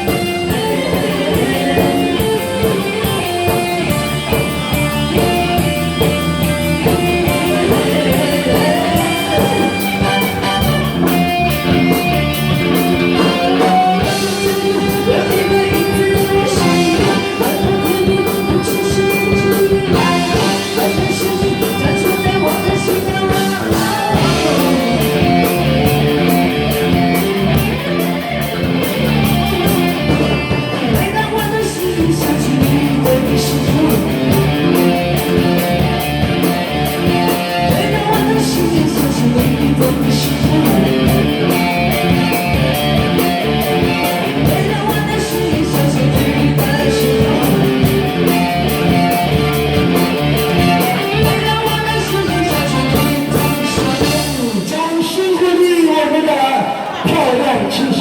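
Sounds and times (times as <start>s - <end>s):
pop song with guitar and drums: 0.0s - 58.0s.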